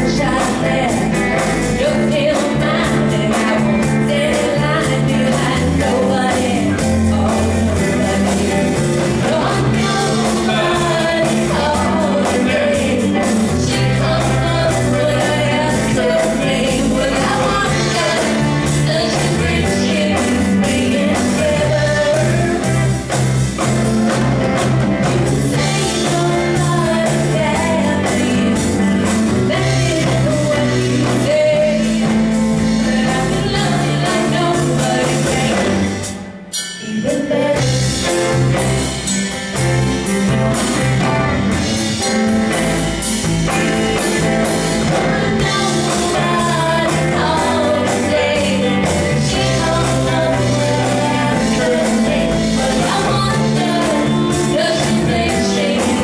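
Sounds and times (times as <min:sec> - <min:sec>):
woman singing: 0:00.0 - 0:23.0, 0:25.3 - 0:36.2, 0:36.8 - 0:38.6, 0:44.8 - 0:56.0
live rock band playing: 0:00.0 - 0:56.0.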